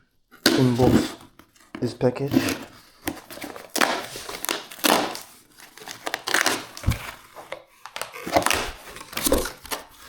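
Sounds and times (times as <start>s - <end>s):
cardboard box crinkling and scraping: 0.3s - 10.0s.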